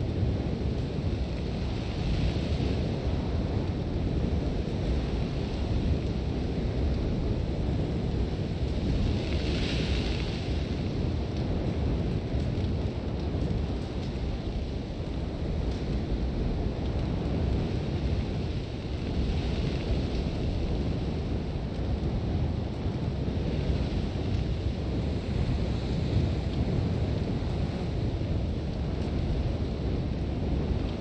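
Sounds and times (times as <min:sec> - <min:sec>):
deep wind rumble: 0:00.0 - 0:31.0
hiss of wind-driven sand: 0:00.0 - 0:31.0.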